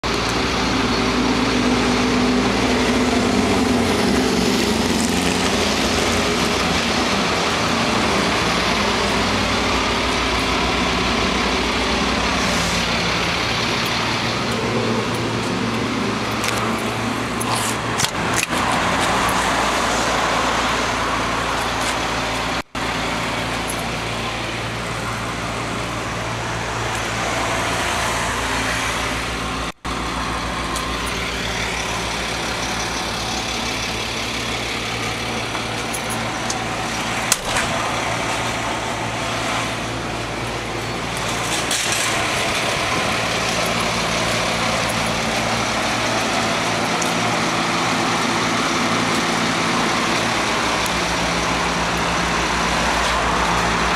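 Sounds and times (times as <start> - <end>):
truck engine idling: 0.0 - 53.9.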